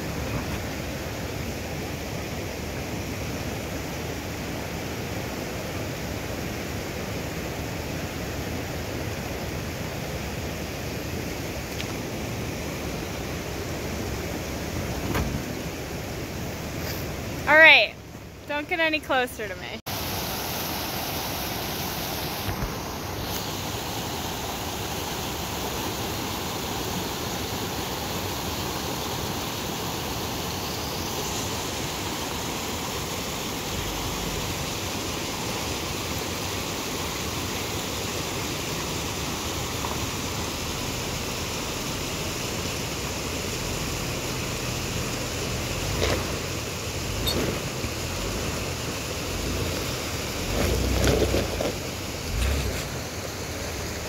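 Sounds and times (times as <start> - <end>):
river rushing over rocks: 0.0 - 18.4, 19.9 - 54.0.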